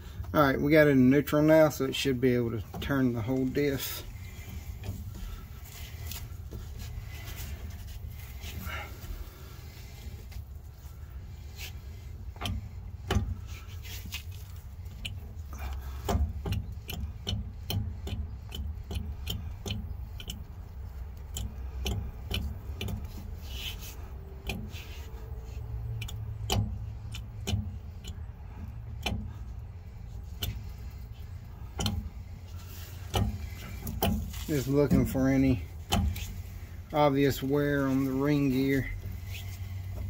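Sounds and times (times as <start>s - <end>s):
low steady rumble: 0.0s - 40.0s.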